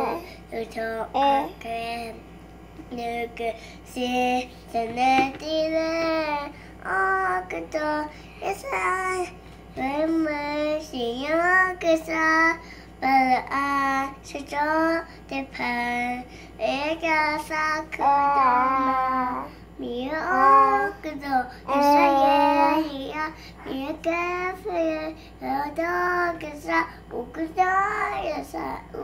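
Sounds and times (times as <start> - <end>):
girl singing unaccompanied: 0.0 - 29.0.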